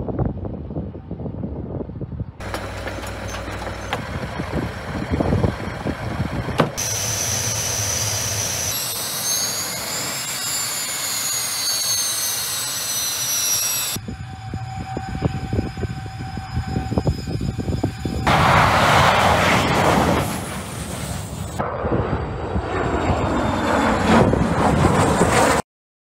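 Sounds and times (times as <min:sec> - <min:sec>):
high turbine whine: 0:00.0 - 0:25.6
jet engine rushing: 0:02.4 - 0:25.6.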